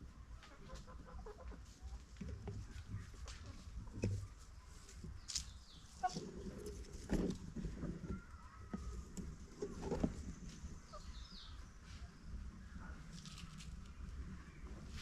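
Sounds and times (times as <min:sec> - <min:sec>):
chickens clucking: 0:00.1 - 0:15.0.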